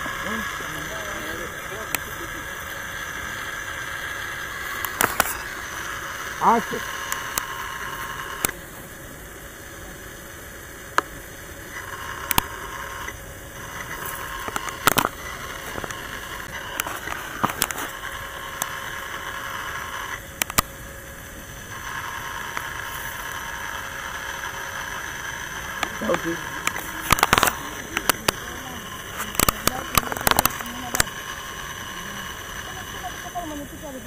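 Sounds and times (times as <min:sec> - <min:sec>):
sharp clicks and crackles: 0:00.0 - 0:08.6, 0:10.9 - 0:20.8, 0:21.5 - 0:34.0
faint hum: 0:00.0 - 0:34.0
outdoor background hiss: 0:00.0 - 0:34.0.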